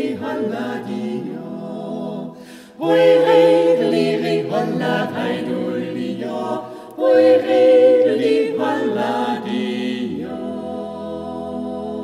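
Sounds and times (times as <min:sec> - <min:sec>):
vocal ensemble singing a cappella: 0:00.0 - 0:12.0.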